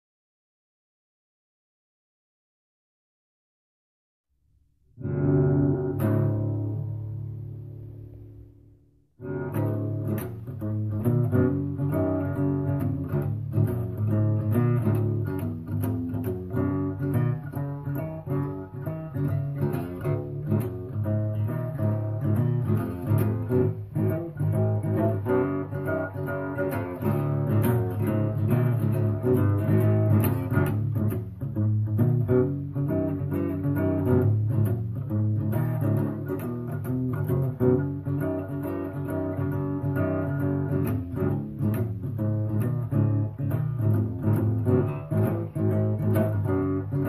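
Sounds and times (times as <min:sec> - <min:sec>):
plucked guitar: 0:05.0 - 0:47.0.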